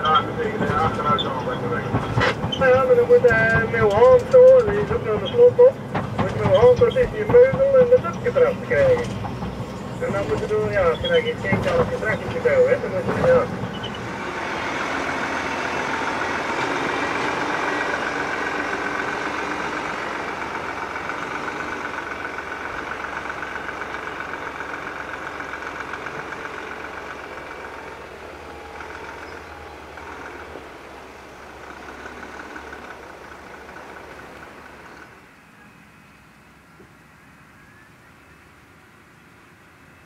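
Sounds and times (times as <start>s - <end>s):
diesel machinery engine drone: 0.0s - 40.0s.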